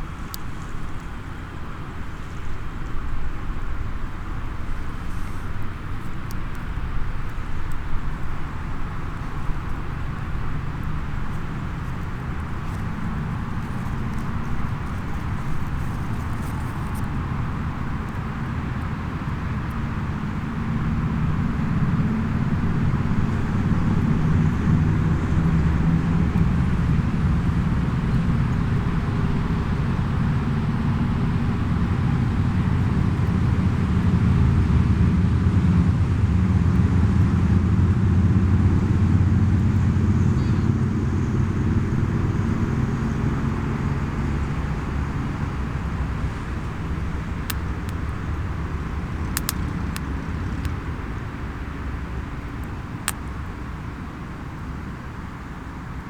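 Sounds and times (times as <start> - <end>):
distant vehicle engine rumble: 0.0 - 56.0.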